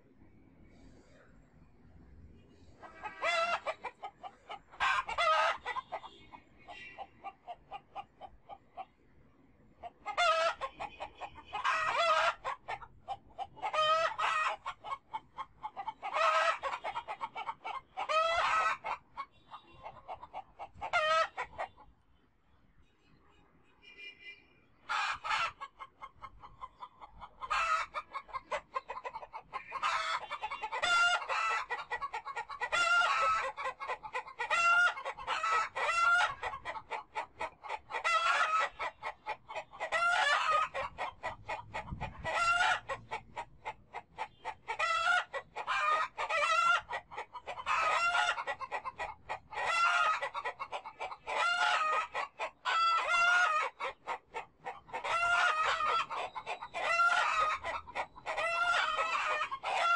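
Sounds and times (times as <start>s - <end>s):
chickens clucking: 2.4s - 22.0s, 24.8s - 59.9s.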